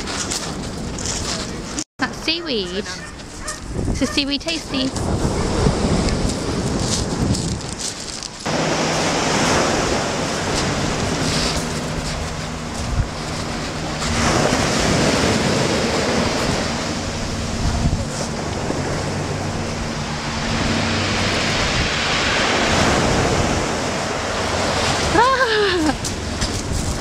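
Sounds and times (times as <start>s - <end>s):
sea waves washing up shingle: 5.0s - 27.0s.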